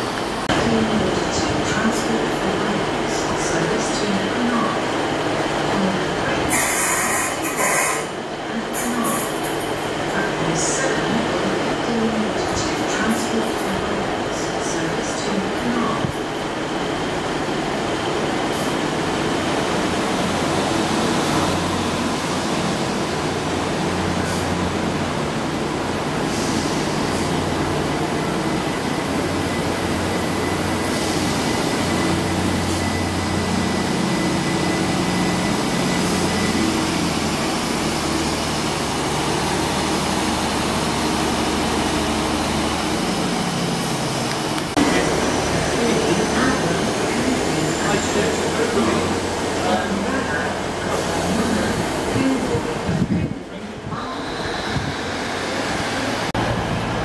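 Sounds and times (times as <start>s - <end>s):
train engine hum: 0.0s - 57.0s.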